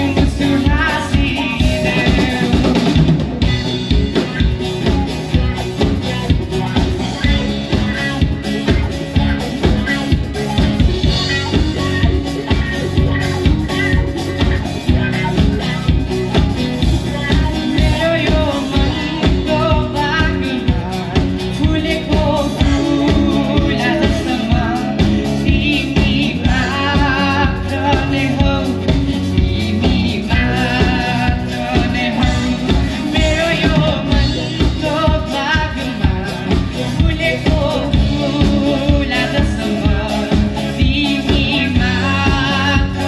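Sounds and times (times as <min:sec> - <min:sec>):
acoustic and electric guitars: 0:00.0 - 0:43.0
drums: 0:00.0 - 0:43.0
electric bass: 0:00.0 - 0:43.0
man singing: 0:00.0 - 0:43.0.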